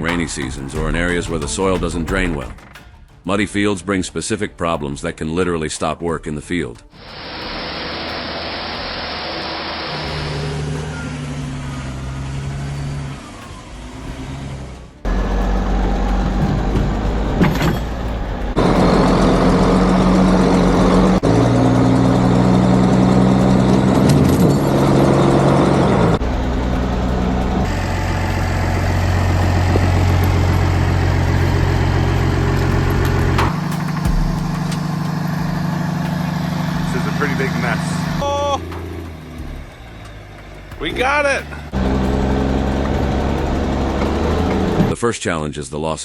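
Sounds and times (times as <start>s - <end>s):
tractor engines running hard: 7.0s - 45.0s.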